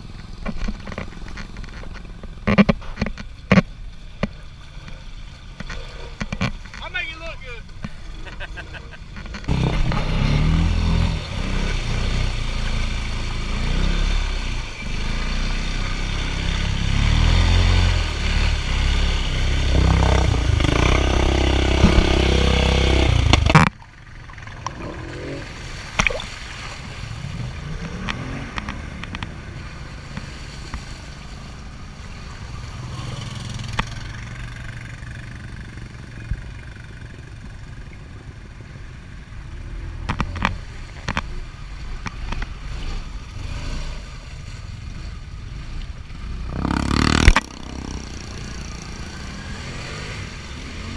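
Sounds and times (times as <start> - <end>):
off-road engines revving: 0.0 - 50.9.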